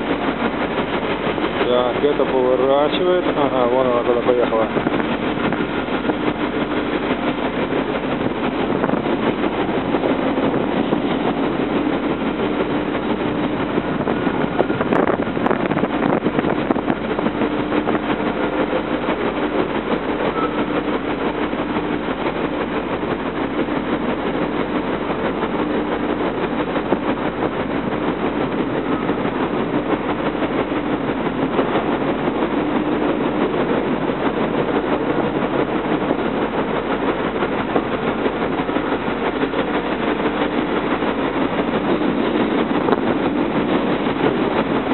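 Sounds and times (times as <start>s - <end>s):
heavy machinery rumbling: 0.0s - 44.9s
low hum: 0.0s - 44.9s.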